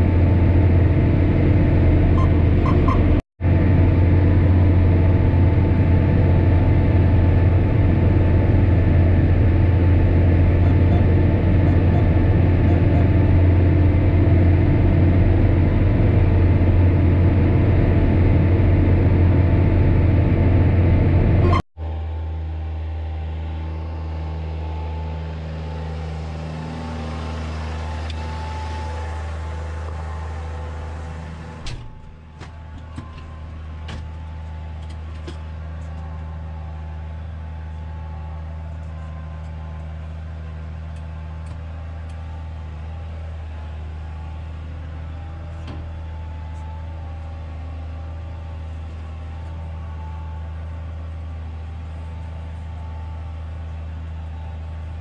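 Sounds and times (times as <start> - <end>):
tractor diesel engine humming: 0.0 - 55.0.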